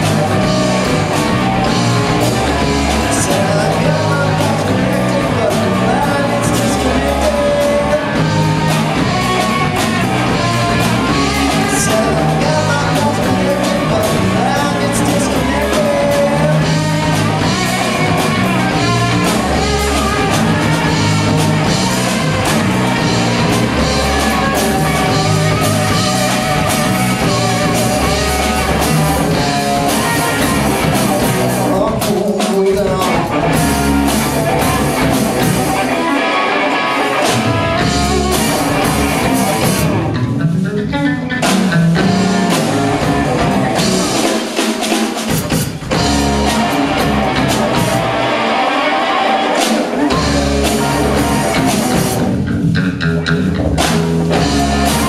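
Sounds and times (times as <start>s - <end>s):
electric bass: 0.0s - 44.4s, 45.3s - 55.0s
drum kit: 0.0s - 55.0s
electric guitar: 0.0s - 55.0s.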